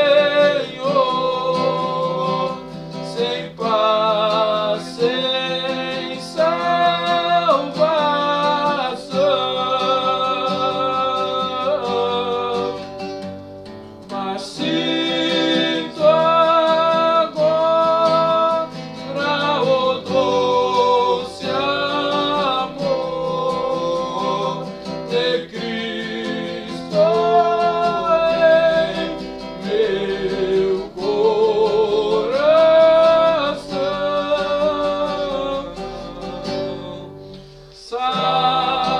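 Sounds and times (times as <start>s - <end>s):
men singing a hymn: 0.0s - 13.0s, 14.1s - 38.9s
acoustic guitar strumming: 0.0s - 38.9s.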